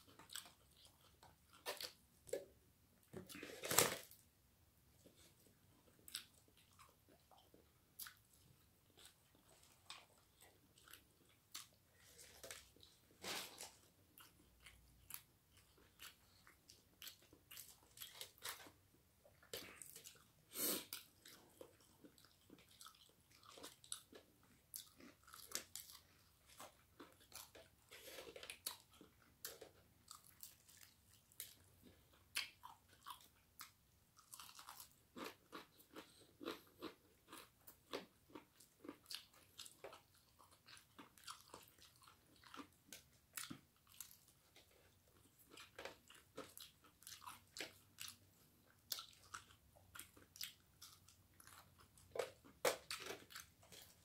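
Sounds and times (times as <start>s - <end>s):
crunching of fried chicken: 5.9s - 54.0s.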